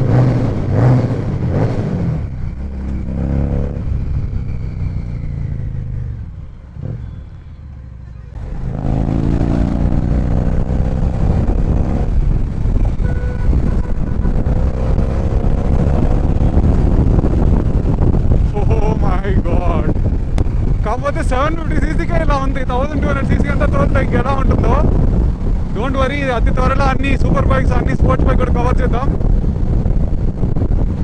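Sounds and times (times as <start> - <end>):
motorcycle engine revving: 0.0 - 7.4, 8.4 - 31.0.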